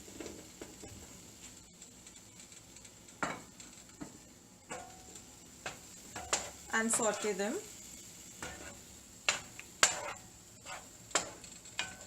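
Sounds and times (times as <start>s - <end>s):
faint sizzle in a pan: 0.0s - 12.0s.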